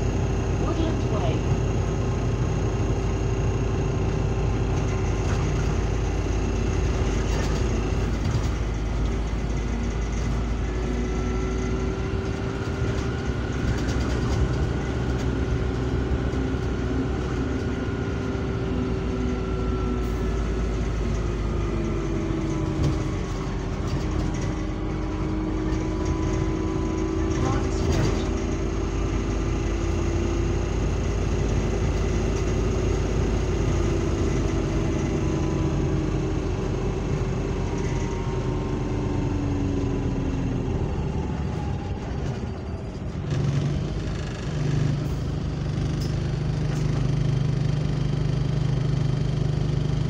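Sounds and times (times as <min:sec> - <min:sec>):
bus engine rumbling: 0:00.0 - 0:50.0.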